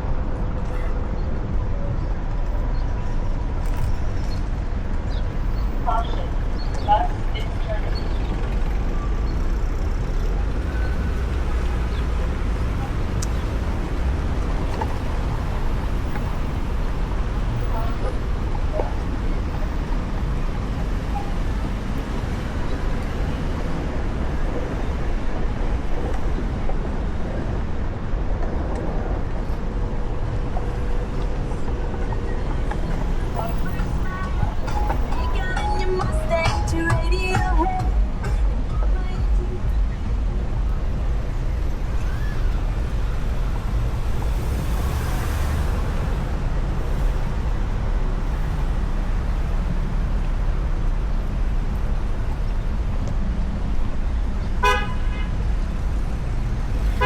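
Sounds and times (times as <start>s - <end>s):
electric board road noise: 0.0s - 57.0s
street traffic noise: 0.0s - 57.0s.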